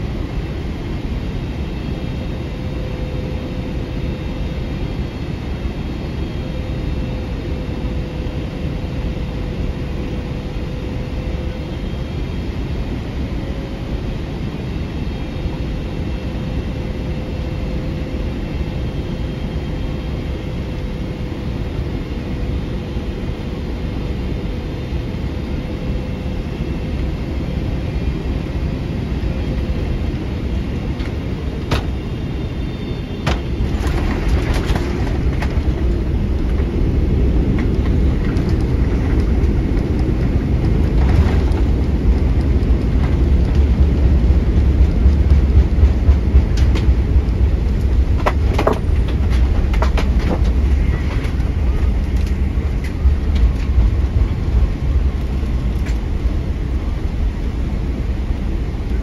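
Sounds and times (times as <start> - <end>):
aircraft cabin rumble: 0.0 - 59.0.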